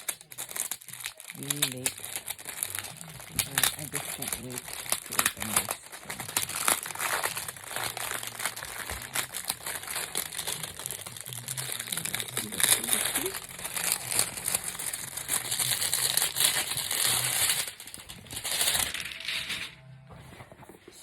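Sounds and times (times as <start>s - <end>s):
plastic packaging crinkling: 0.0s - 19.6s.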